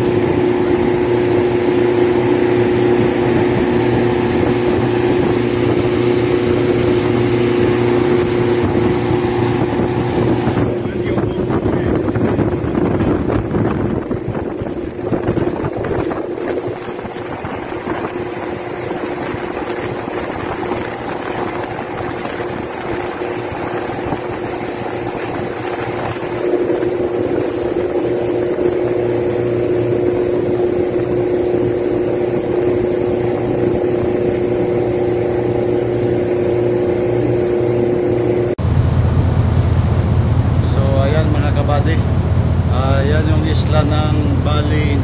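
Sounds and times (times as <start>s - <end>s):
boat engine running: 0.0s - 45.0s
wind and water noise: 0.0s - 45.0s.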